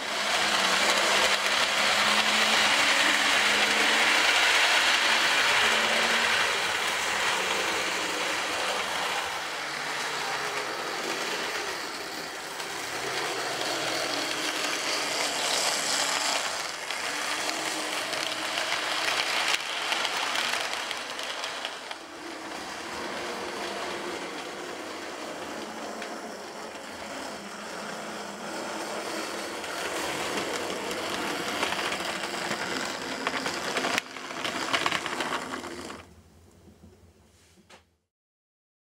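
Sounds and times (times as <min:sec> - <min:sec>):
model train whirring rattle: 0:00.0 - 0:36.1.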